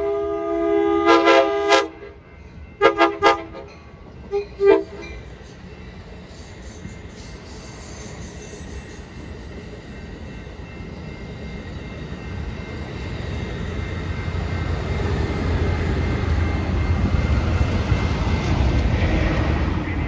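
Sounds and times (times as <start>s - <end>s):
passenger train rolling past: 0.0s - 20.0s.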